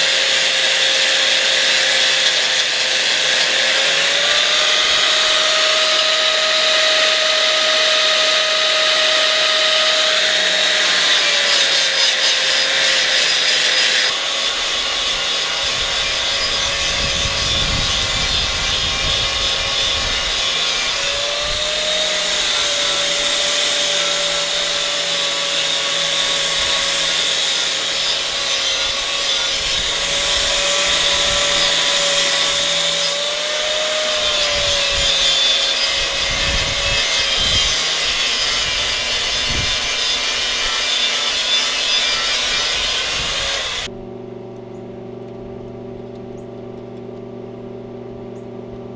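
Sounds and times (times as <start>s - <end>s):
angle grinder on steel: 0.0s - 43.9s.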